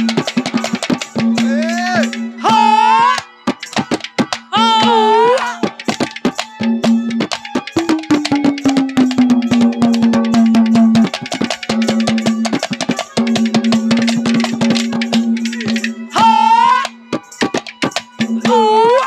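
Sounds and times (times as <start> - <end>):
fast hand-drum strokes: 0.0 - 19.0.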